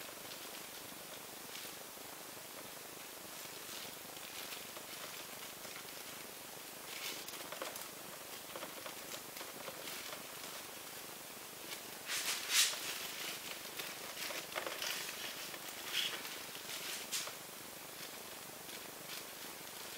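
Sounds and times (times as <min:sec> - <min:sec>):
plastic gloves rustling: 0:00.0 - 0:19.9
steady faint hiss: 0:00.0 - 0:19.9.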